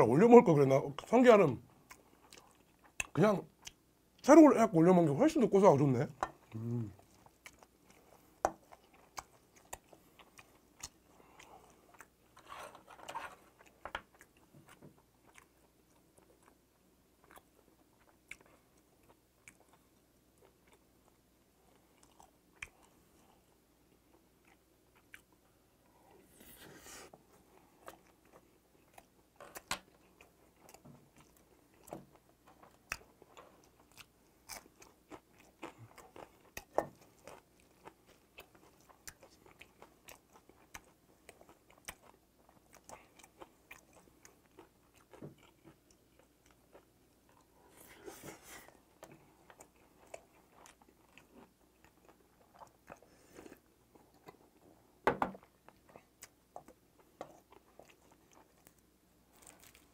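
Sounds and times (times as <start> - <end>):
person chewing food: 1.7 - 3.8, 6.1 - 59.9.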